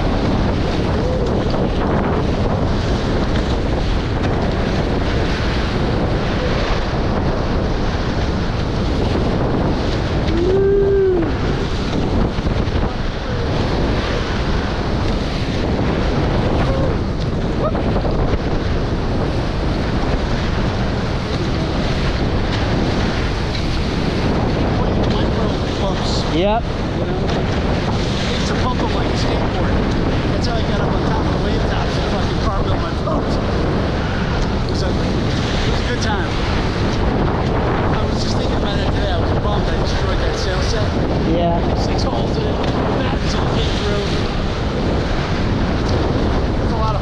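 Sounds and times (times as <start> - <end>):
water rushing past hulls: 0.0 - 47.0
wind buffeting microphone: 0.0 - 47.0.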